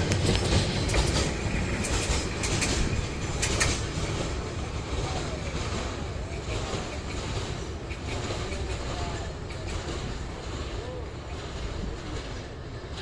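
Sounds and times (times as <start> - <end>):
freight train rolling: 0.0 - 13.0
wheels clicking over rail joints: 0.0 - 13.0.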